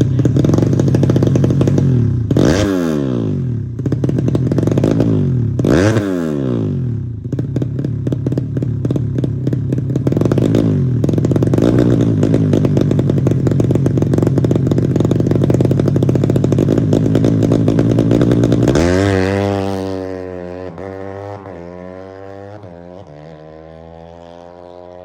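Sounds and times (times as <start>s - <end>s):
motorcycle engine revving hard: 0.0s - 25.0s.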